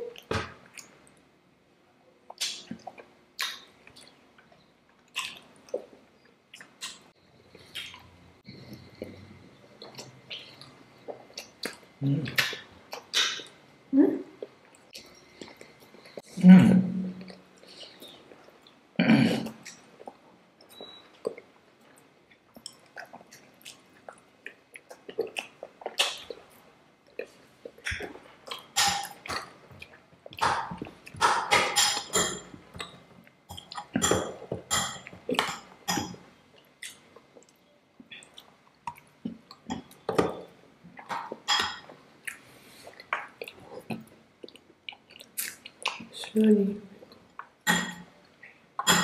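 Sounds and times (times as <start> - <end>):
people chewing and mouth sounds: 0.0 - 1.3, 2.2 - 49.0.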